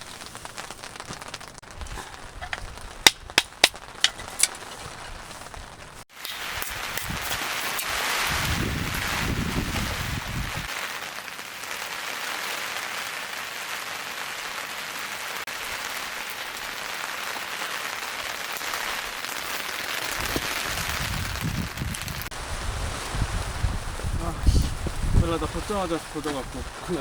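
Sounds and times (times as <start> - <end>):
rain pattering: 0.0 - 27.0.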